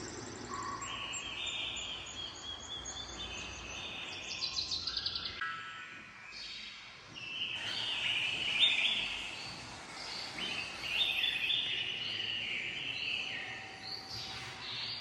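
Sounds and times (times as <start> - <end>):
recorded birdsong: 0.0 - 15.0.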